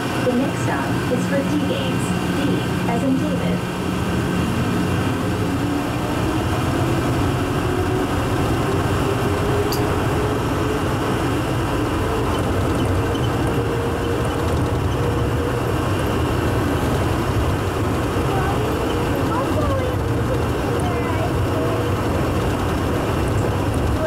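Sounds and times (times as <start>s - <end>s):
rumble of tyres and running gear: 2.1s - 24.0s.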